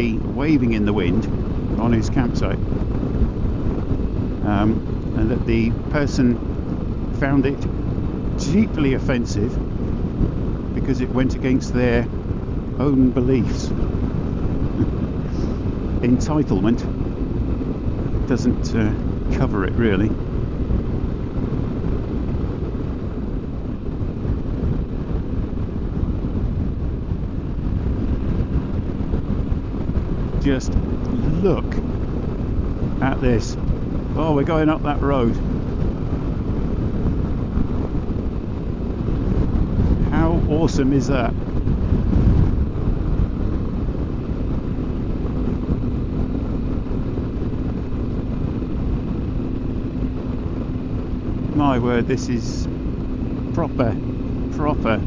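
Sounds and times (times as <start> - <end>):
motorcycle engine: 0.0 - 55.0
wind buffeting microphone: 0.0 - 55.0
wind rushing: 0.0 - 55.0.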